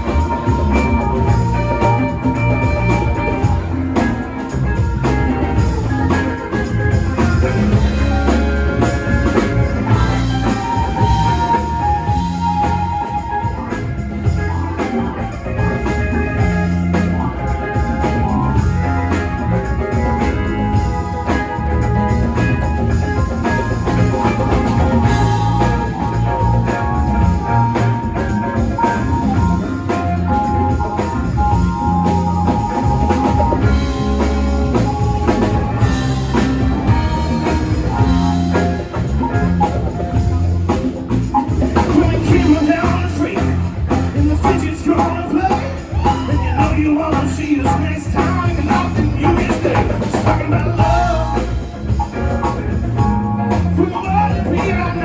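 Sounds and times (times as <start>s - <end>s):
guitar holding melodic notes: 0.0s - 55.0s
rock band playing: 0.0s - 55.0s.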